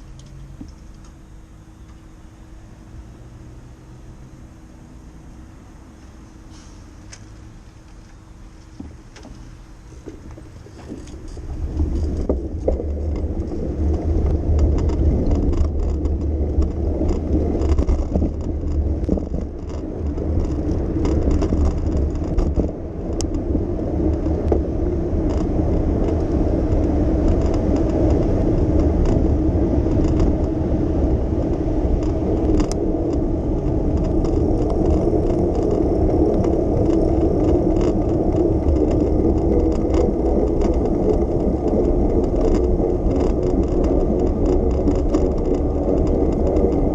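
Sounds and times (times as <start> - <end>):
bicycle tyre and road noise: 0.0 - 46.9
light rattles and clicks: 7.0 - 46.9.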